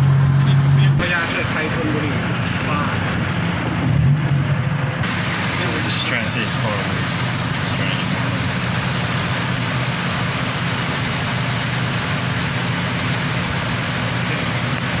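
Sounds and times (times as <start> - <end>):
low engine hum: 0.0 - 15.0
vehicle rumble: 0.0 - 15.0.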